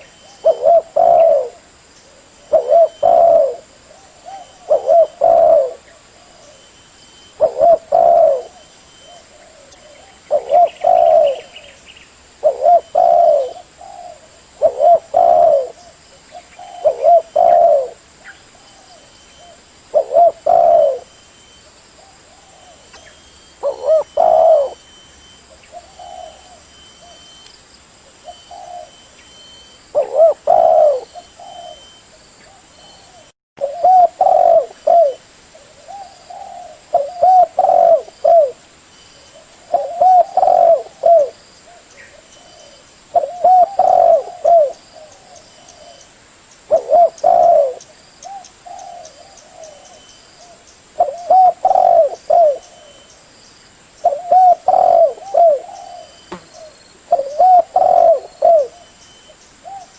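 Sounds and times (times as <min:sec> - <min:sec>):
dove cooing: 0:00.0 - 0:11.8, 0:12.4 - 0:27.3, 0:28.1 - 0:38.6, 0:39.3 - 0:46.1, 0:46.7 - 0:53.1, 0:54.0 - 0:59.9.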